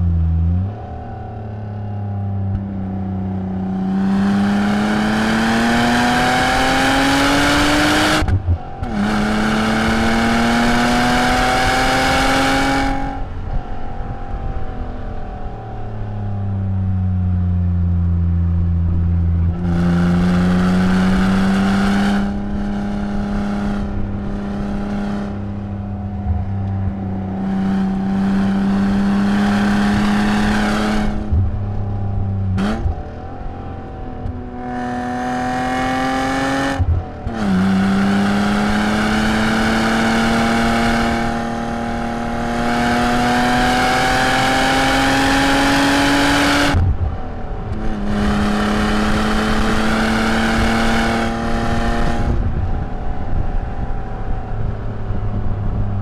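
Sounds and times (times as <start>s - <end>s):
wind noise: 0.0s - 56.0s
car engine revving: 2.2s - 15.2s, 17.2s - 55.8s.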